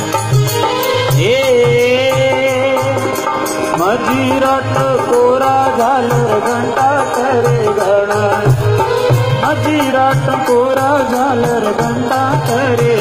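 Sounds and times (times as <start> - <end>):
drum steady rhythm: 0.0 - 13.0.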